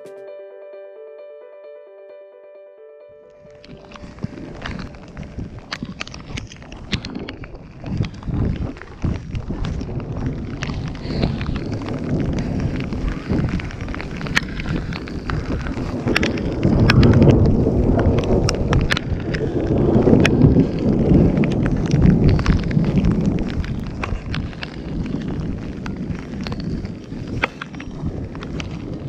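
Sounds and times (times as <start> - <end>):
wind buffeting microphone: 3.4 - 29.0.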